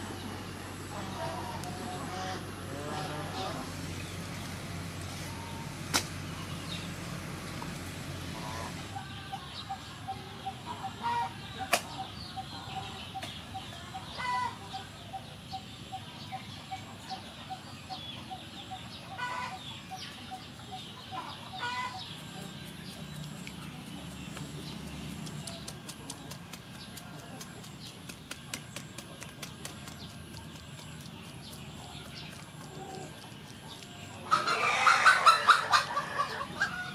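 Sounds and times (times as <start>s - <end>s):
chickens clucking: 5.2s - 36.9s.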